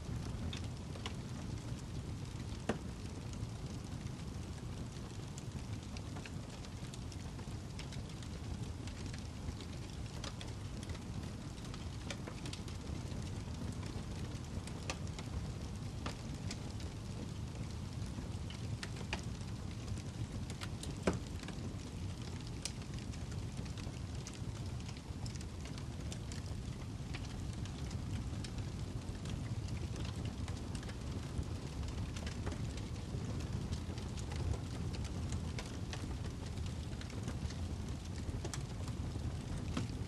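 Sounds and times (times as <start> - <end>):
fire crackling and popping: 0.0 - 40.0
low rumble of flames: 0.0 - 40.0.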